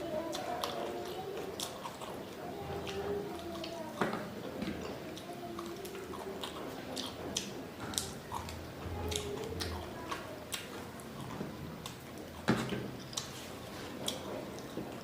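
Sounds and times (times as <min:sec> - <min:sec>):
person chewing food: 0:00.3 - 0:03.8, 0:04.8 - 0:15.0.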